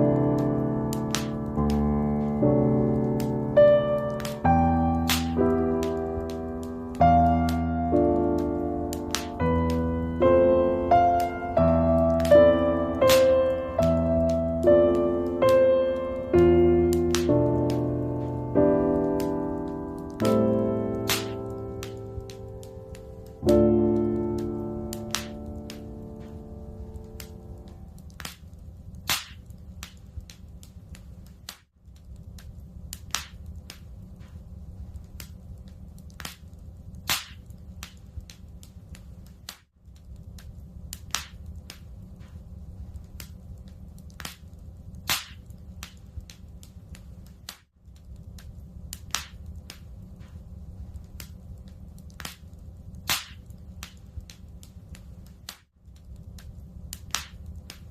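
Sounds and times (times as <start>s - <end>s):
fire snaps and pops: 0.0s - 57.9s
wood fire crackling: 0.0s - 57.9s.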